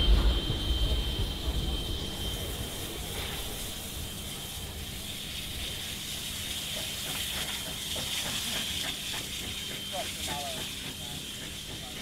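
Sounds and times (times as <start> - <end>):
steam hiss: 0.0 - 12.0
steam locomotive rumble: 0.0 - 12.0.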